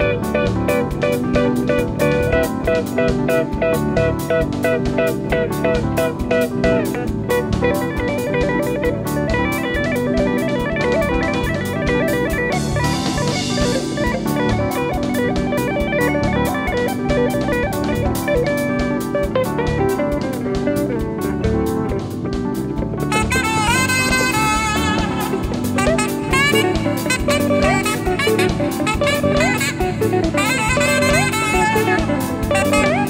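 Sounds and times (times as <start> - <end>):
bass: 0.0 - 33.0
drum kit: 0.0 - 33.0
jazz guitar runs: 0.0 - 33.0.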